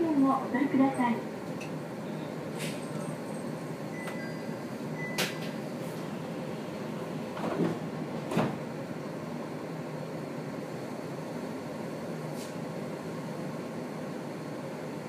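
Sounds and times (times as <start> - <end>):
train cabin hum: 0.0 - 15.0.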